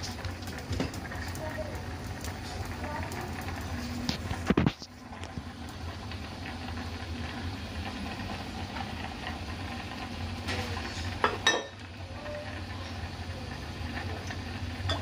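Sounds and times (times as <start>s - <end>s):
kitchen appliances humming: 0.0s - 15.0s.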